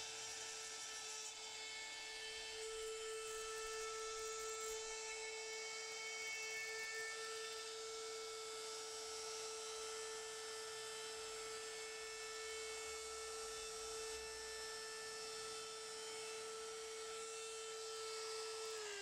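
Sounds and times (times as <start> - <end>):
router whining through wood: 0.0 - 19.0.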